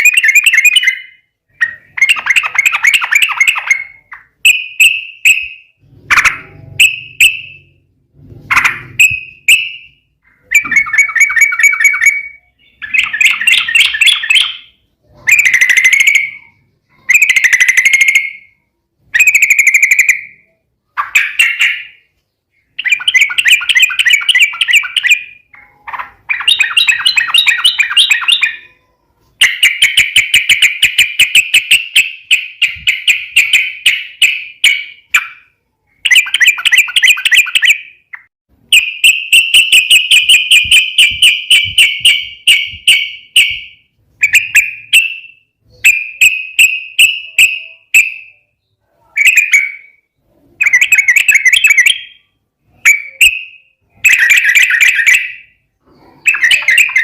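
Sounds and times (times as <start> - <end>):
bulbul chattering song: 0.0 - 57.0.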